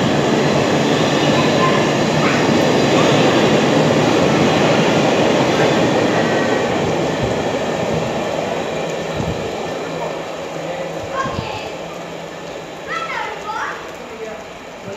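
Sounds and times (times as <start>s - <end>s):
freight train rolling past: 0.0s - 14.9s.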